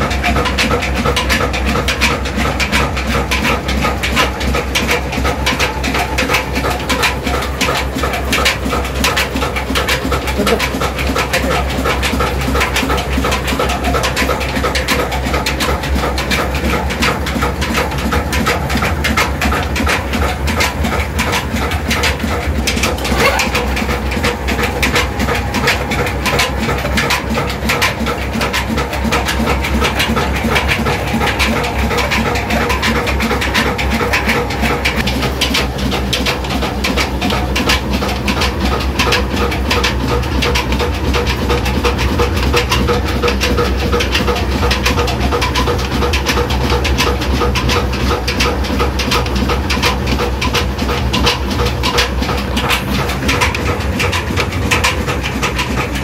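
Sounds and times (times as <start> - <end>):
old engine knocking: 0.0 - 56.0.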